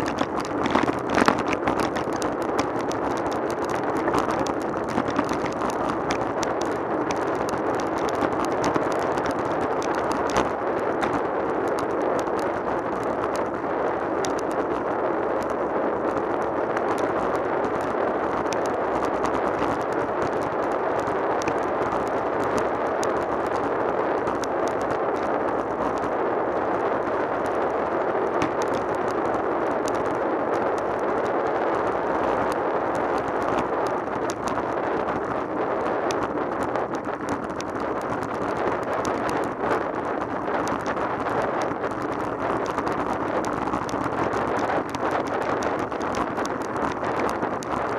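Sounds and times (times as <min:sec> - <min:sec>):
bicycle tyre noise on tarmac: 0:00.0 - 0:47.9
ticks and rattles from road: 0:00.0 - 0:47.9
wind roaring on microphone: 0:00.0 - 0:47.9.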